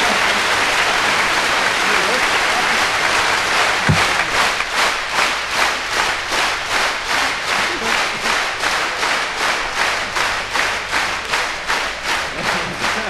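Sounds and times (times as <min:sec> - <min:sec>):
audience applause: 0:00.0 - 0:13.0
rhythmic clapping in unison: 0:00.0 - 0:13.0.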